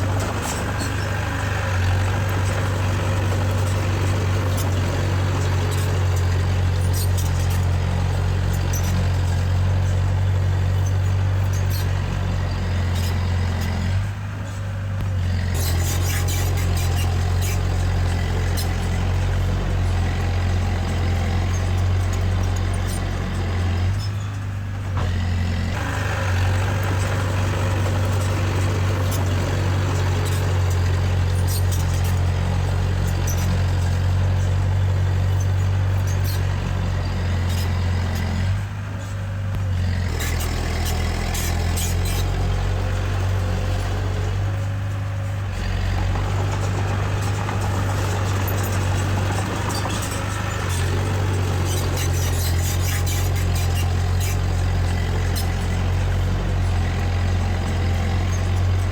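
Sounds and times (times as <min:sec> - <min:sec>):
diesel engine of heavy machinery: 0:00.0 - 0:58.9
metallic clicks and squeaks: 0:00.2 - 0:25.8, 0:26.4 - 0:58.9.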